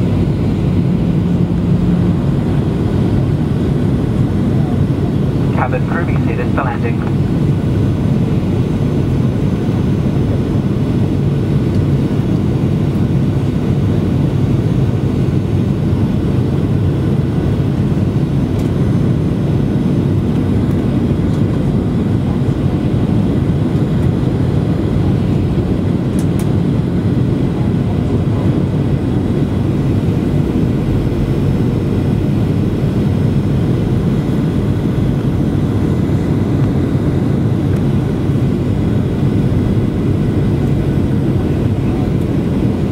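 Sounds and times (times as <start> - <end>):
airplane cabin rumble: 0.0 - 42.9.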